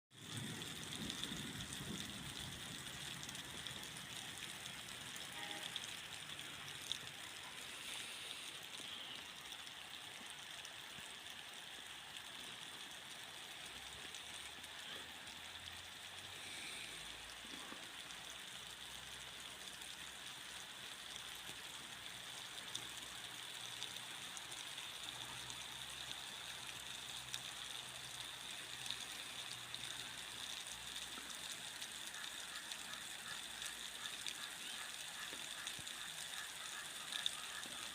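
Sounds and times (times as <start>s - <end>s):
steady rain: 0.1s - 37.9s.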